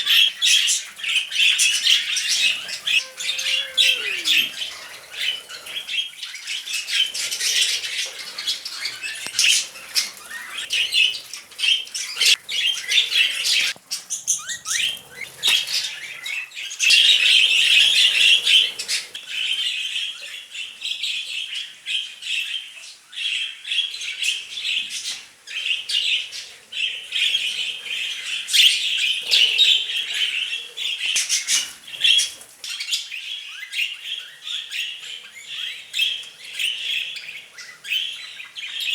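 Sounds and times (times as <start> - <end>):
budgerigars chattering and squawking: 0.0 - 22.1, 22.9 - 38.9.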